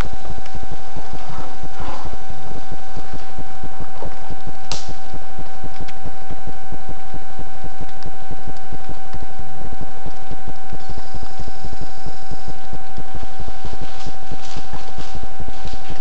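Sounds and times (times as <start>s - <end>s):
electronic buzz with whine: 0.0s - 16.0s.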